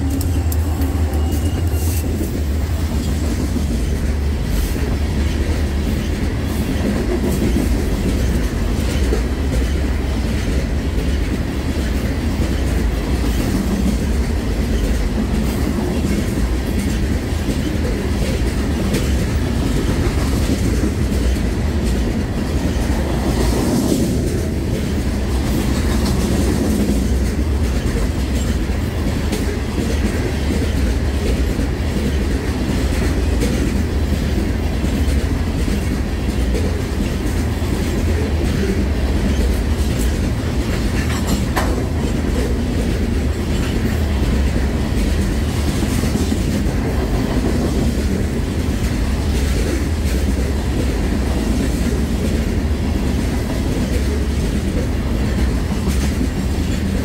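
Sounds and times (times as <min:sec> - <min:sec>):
steel wheels rumbling on rail: 0:00.0 - 0:57.0
wheels clacking over rail joints: 0:00.0 - 0:57.0.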